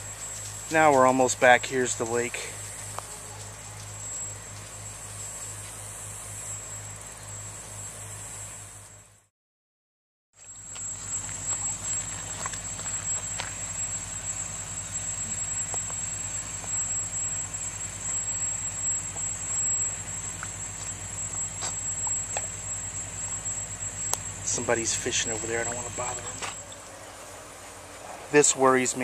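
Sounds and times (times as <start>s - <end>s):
high-pitched whine: 0.0s - 9.3s, 10.4s - 29.0s
low hum: 0.0s - 9.3s, 10.4s - 29.0s.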